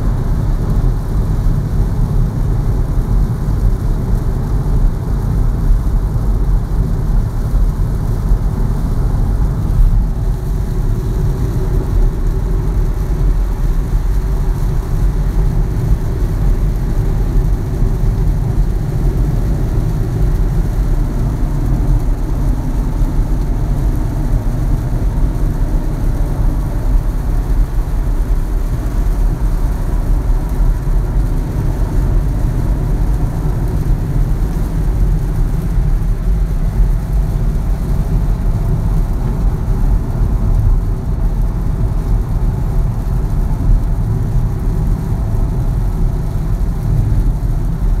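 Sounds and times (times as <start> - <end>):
car interior road rumble: 0.0 - 48.0.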